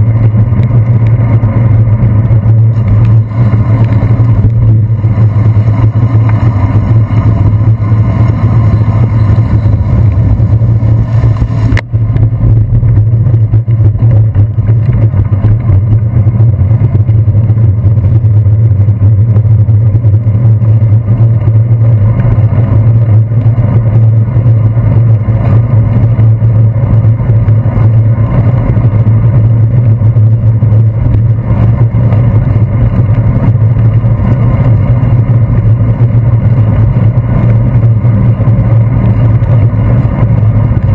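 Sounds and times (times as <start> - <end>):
wind and road rumble: 0.0 - 40.9.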